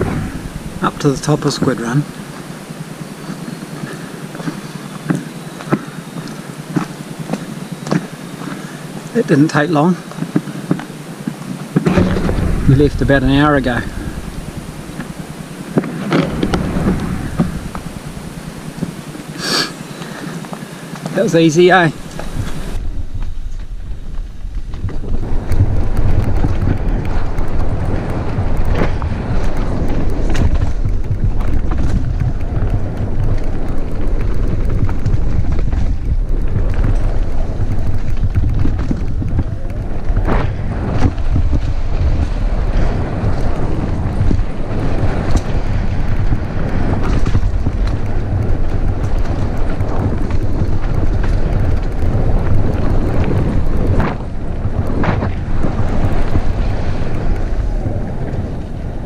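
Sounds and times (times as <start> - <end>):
bike clacking over bumps: 0.0 - 59.0
bike tyres rumbling on dirt: 0.0 - 59.0
wind on microphone: 0.0 - 59.0.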